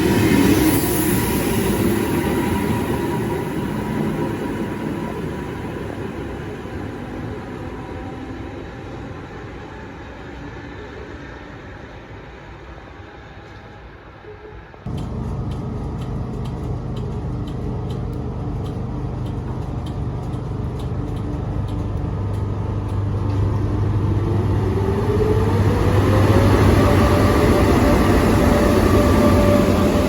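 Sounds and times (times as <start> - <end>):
electric train low hum: 0.0 - 30.0.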